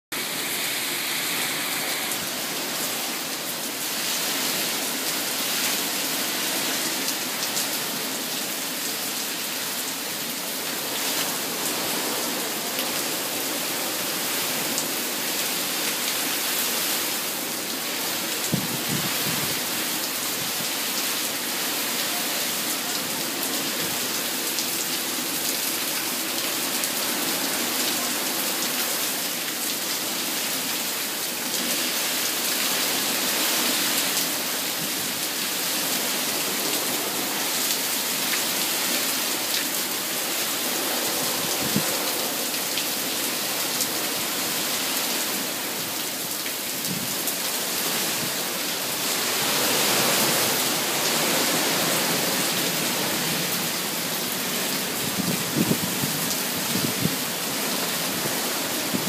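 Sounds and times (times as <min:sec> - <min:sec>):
heavy rain pouring: 0:00.1 - 0:59.0.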